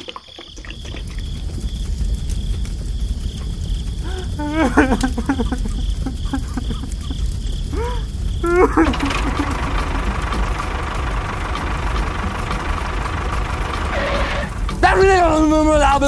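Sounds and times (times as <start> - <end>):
crickets chirping: 0.0 - 16.0
tractor engine rumbling: 0.6 - 16.0.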